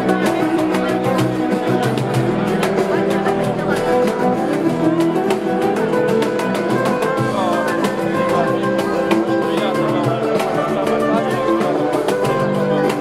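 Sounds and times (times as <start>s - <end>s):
band accompaniment: 0.0s - 13.0s
flamenco guitar playing fast: 0.0s - 13.0s.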